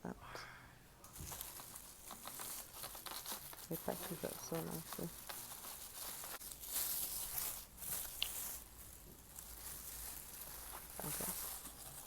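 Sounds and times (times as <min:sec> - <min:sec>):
food packaging rustling: 0:01.1 - 0:12.0.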